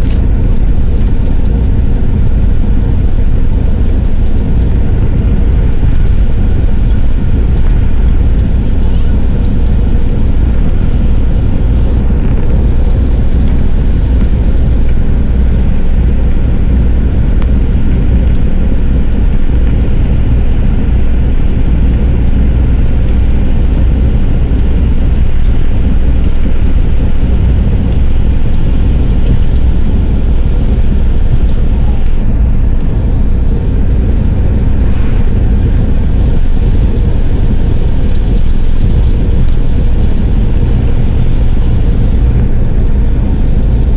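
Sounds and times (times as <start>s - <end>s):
vehicle cabin road rumble: 0.0s - 43.9s.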